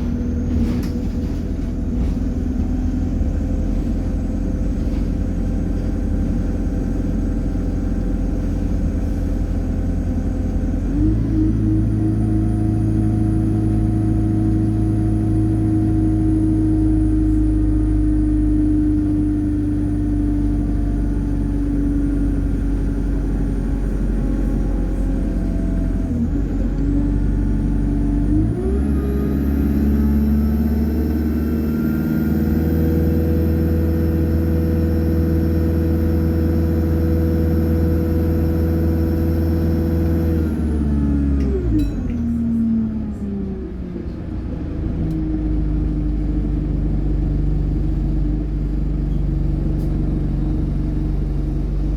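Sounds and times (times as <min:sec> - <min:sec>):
bus engine running: 0:00.0 - 0:51.9.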